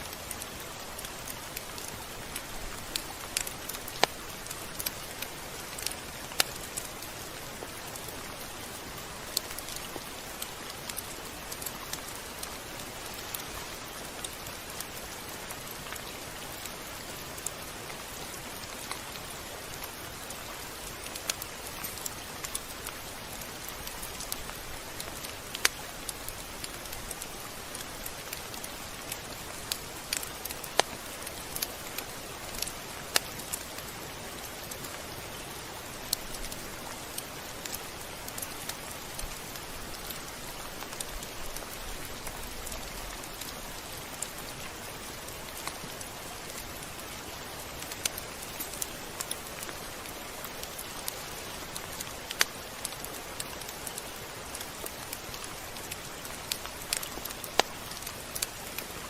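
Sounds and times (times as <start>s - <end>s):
raindrops ticking on a surface: 0.0s - 59.0s
steady rain hiss: 0.0s - 59.0s.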